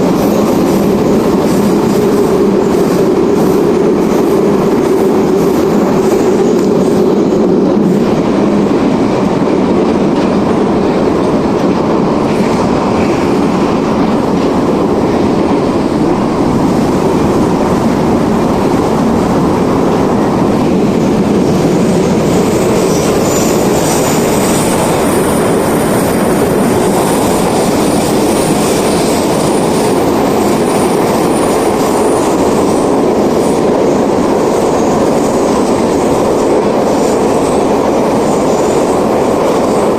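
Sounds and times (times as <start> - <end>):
rumble of train wheels: 0.0 - 39.9.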